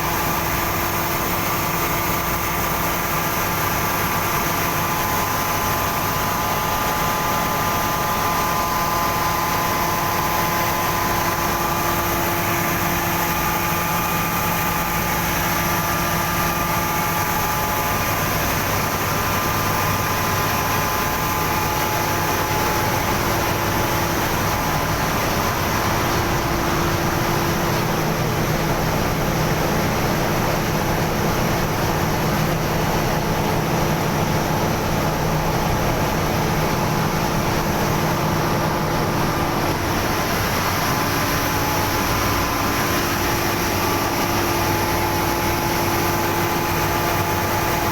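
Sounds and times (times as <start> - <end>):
machinery hum with whining: 0.0 - 47.9.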